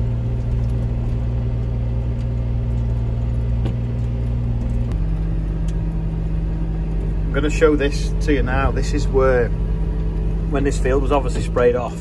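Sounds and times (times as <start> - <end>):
engine drone from inside cab: 0.0 - 12.0.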